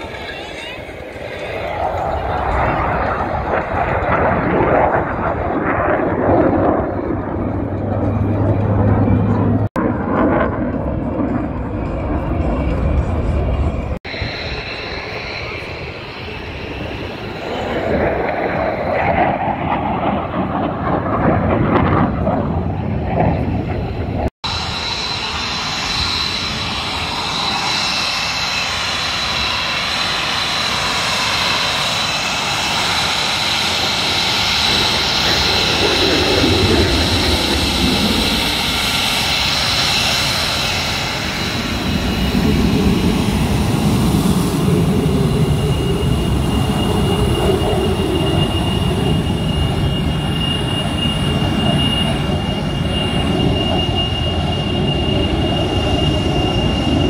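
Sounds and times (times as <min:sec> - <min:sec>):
jet aircraft flying over: 0:00.0 - 0:57.0
jet engines whining on ground: 0:00.0 - 0:57.0.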